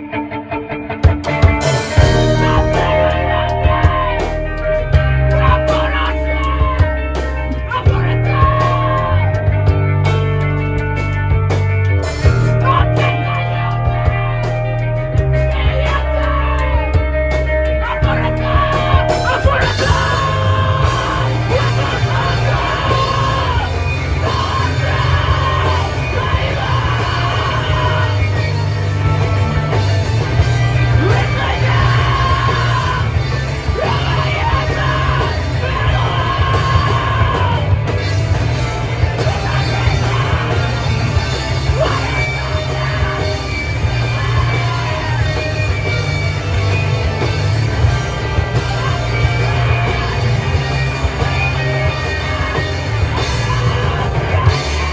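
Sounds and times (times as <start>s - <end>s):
live rock band playing: 0.0s - 54.9s
vocalist yelling and screaming: 2.0s - 9.6s, 12.2s - 17.1s, 17.7s - 28.9s, 30.7s - 45.9s, 47.6s - 54.9s.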